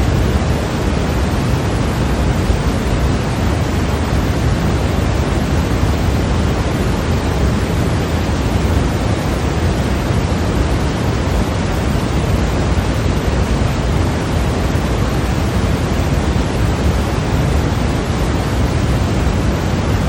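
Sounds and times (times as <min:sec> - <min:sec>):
white noise hiss: 0:00.0 - 0:20.0.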